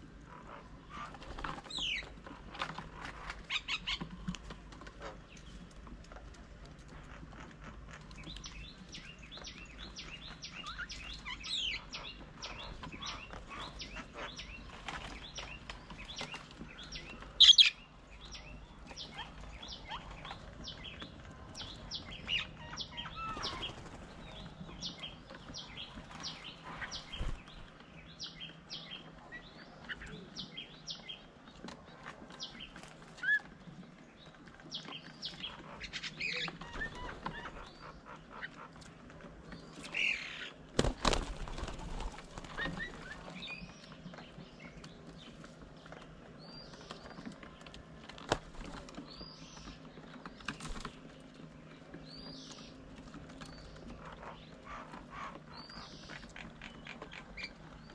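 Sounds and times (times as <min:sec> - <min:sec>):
wild birds chirping: 0:00.0 - 0:57.9.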